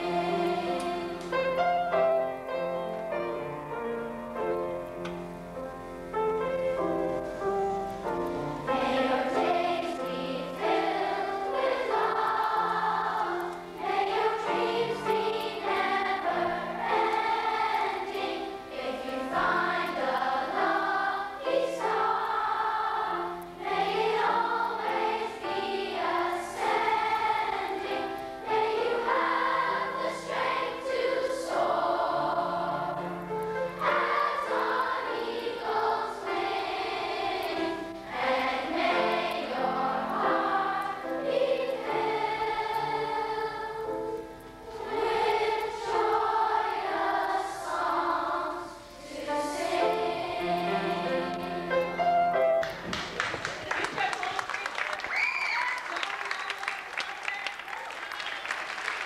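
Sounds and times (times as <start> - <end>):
children's choir singing: 0.0 - 53.0.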